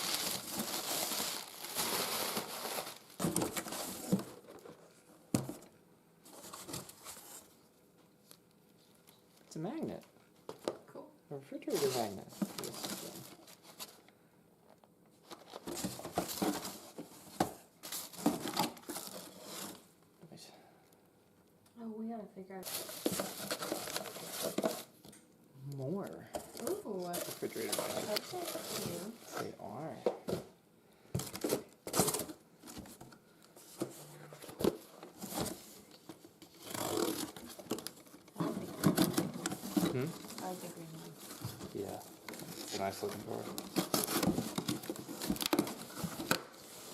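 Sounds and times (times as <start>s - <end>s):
rustling and crinkling handling: 0.0s - 10.8s, 11.6s - 20.0s, 22.6s - 25.2s, 26.0s - 46.9s.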